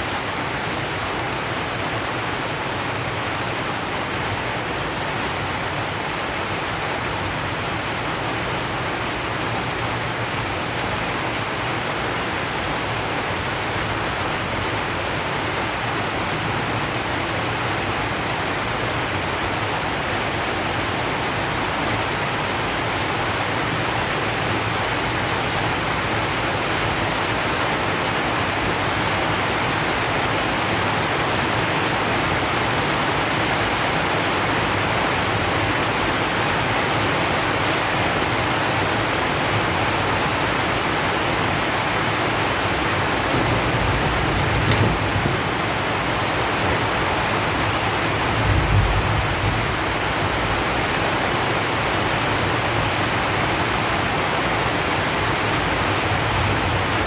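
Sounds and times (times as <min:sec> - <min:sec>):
rain on metal sheet roof: 0:00.0 - 0:57.0.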